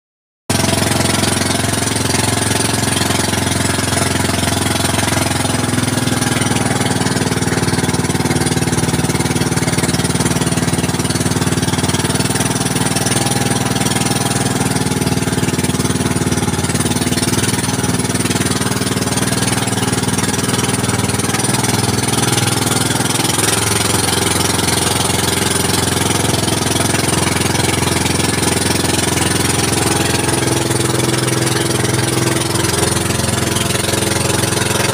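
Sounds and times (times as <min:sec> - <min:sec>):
boat engine drone: 0:00.5 - 0:34.9.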